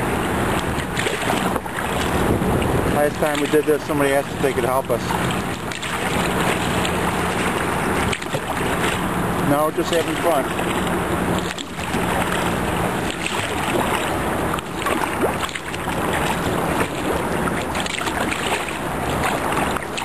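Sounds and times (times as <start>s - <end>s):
kayak paddle splashes: 0.0s - 20.0s
river water rushing and splashing: 0.0s - 20.0s.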